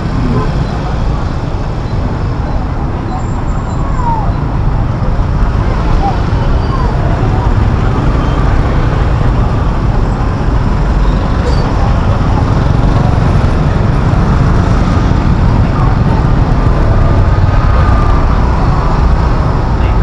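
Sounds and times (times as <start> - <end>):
indistinct voices: 0.0 - 20.0
street traffic din: 0.0 - 20.0.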